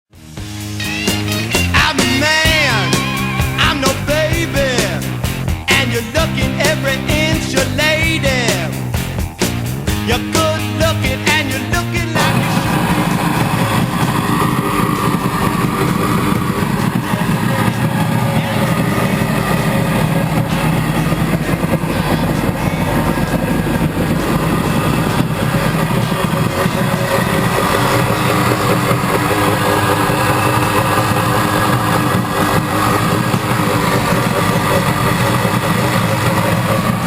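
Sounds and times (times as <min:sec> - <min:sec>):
jet ski engine running: 0:00.1 - 0:37.0.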